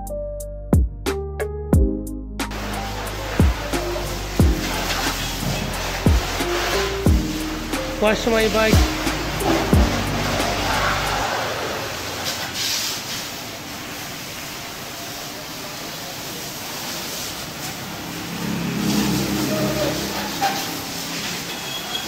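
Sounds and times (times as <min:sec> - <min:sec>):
constant hiss: 0:02.5 - 0:21.8.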